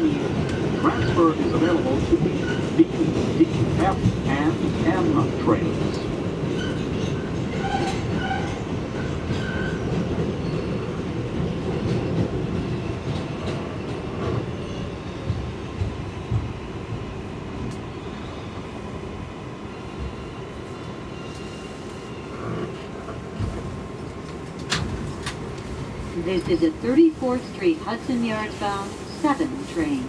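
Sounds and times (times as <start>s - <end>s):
subway train rumble: 0.0s - 30.0s.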